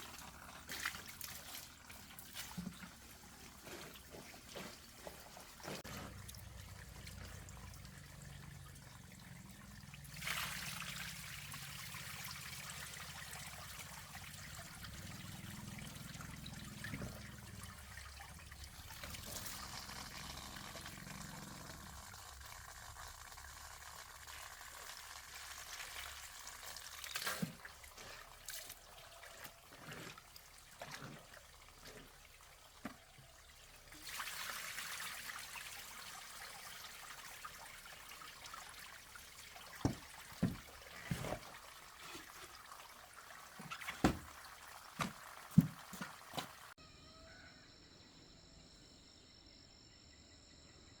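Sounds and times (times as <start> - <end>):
water running and pouring: 0.0 - 46.8.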